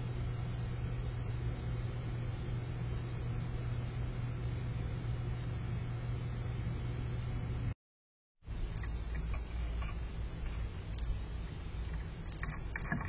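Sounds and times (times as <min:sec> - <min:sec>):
steady low hum: 0:00.0 - 0:07.8, 0:08.4 - 0:13.0.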